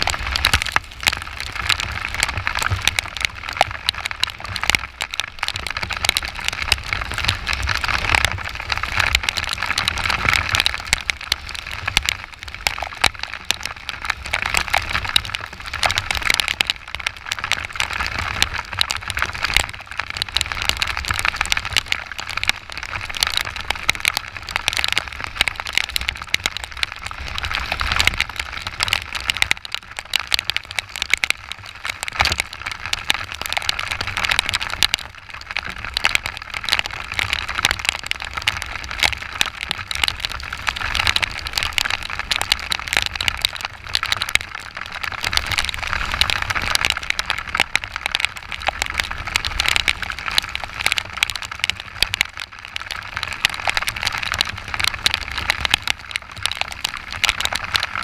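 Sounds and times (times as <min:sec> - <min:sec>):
heavy rain spattering on camera: 0:00.0 - 0:58.0.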